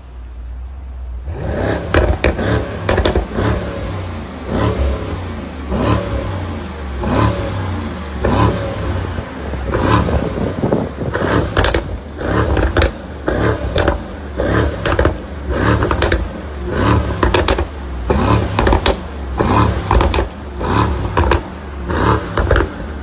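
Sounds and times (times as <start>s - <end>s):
exhaust cracks: 0.6s - 23.0s
car engine revving in blips: 1.2s - 23.0s.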